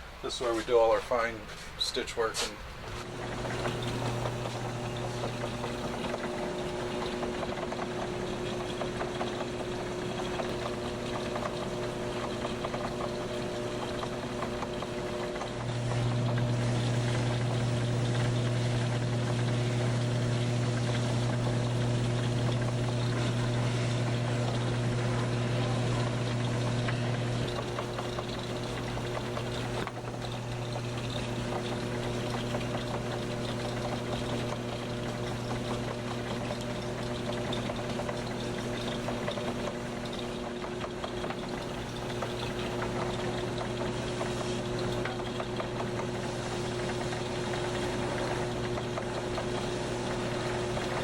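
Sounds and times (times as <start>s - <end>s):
noisy whir: 0.0s - 51.0s
electric motor hum: 2.8s - 51.0s.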